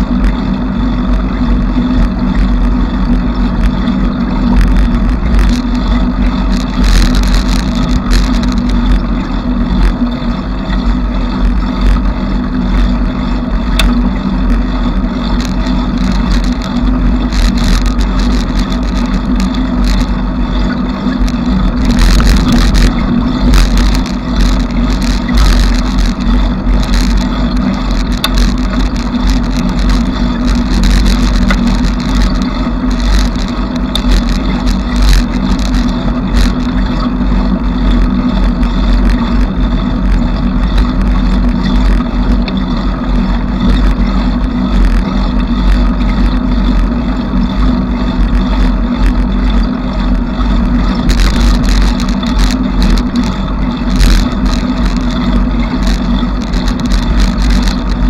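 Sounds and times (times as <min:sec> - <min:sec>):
bicycle clicks and rattles: 0:00.0 - 0:58.0
bicycle rumble: 0:00.0 - 0:58.0.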